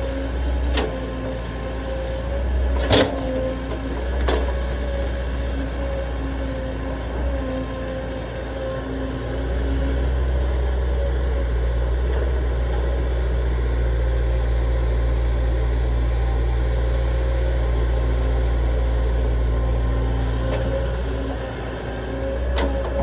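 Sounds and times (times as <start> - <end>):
heavy diesel engine humming: 0.0 - 23.0.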